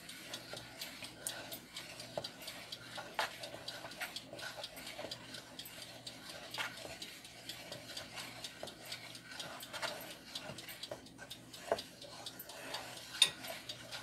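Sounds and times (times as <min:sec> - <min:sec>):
spoon stirring thick mixture: 0:00.1 - 0:14.0.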